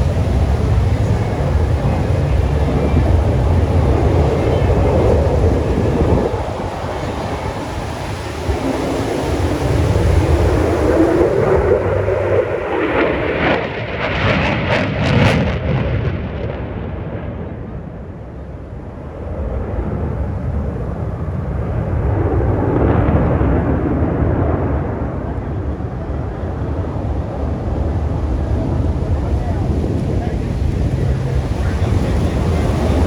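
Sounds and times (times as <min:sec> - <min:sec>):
aircraft engine roar: 0:00.0 - 0:33.0.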